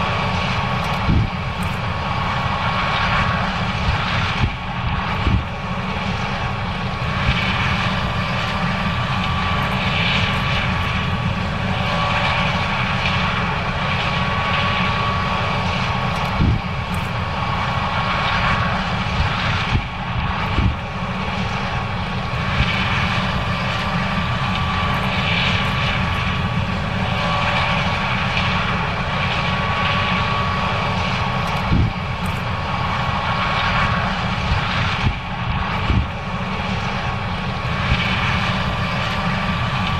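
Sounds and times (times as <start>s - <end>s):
combine harvester machinery drone: 0.0s - 39.9s.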